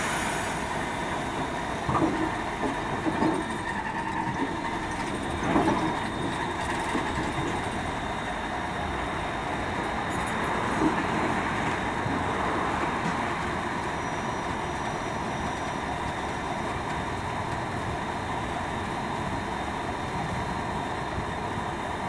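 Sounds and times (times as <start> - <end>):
diesel locomotive running: 0.0 - 22.0.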